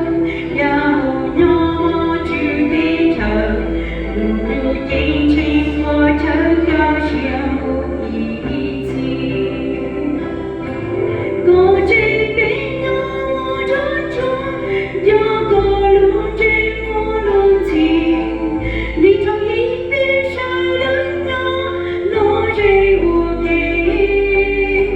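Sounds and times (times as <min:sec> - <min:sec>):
low bass instrument notes: 0:00.0 - 0:24.9.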